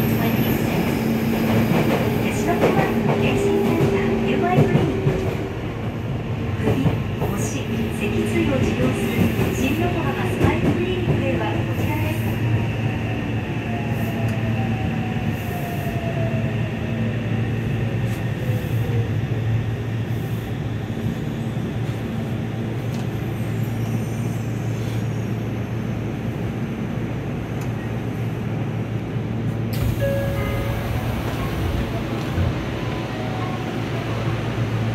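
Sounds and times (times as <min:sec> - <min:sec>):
train running gear rumble: 0:00.0 - 0:12.6, 0:17.4 - 0:34.9.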